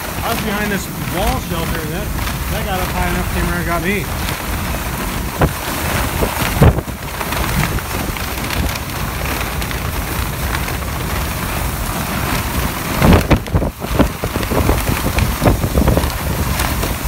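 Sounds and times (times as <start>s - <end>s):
driving rain: 0.0s - 17.0s
hurricane wind buffeting microphone: 0.0s - 17.0s.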